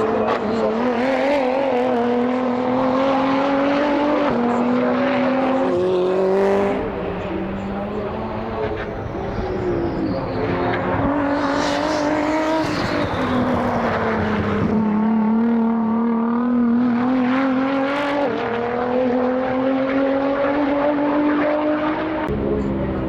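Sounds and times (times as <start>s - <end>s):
race car engine running hard: 0.0s - 23.0s.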